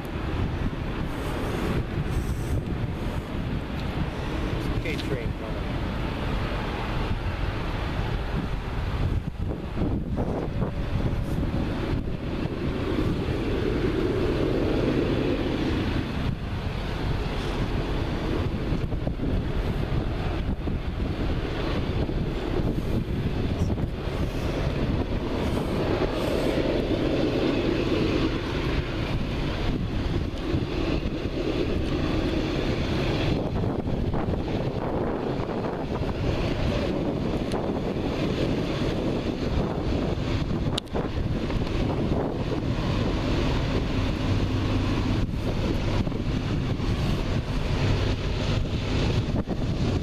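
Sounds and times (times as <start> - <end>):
locomotive rumbling: 0.0 - 50.0
wind on microphone: 0.0 - 50.0.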